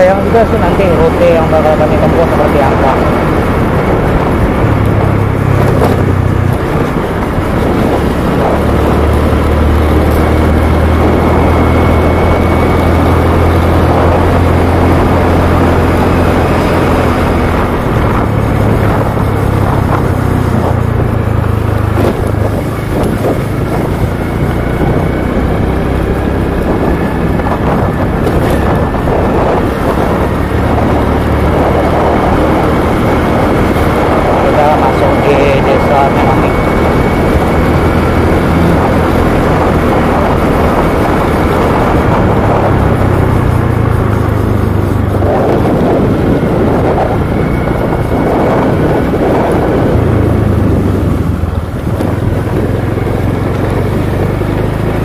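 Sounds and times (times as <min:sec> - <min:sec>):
motorbike engine droning: 0:00.0 - 0:55.0
wind and road noise: 0:00.0 - 0:55.0.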